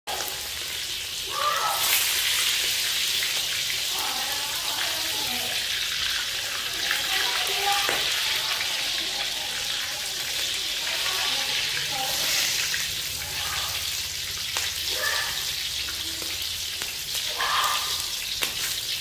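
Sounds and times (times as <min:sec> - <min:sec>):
frying in hot oil: 0:00.1 - 0:19.0.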